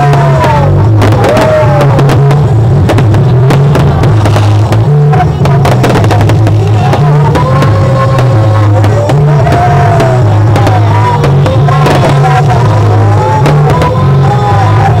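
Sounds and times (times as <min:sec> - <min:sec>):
fireworks banging and crackling: 0:00.0 - 0:15.0
loud music with bass line: 0:00.0 - 0:15.0.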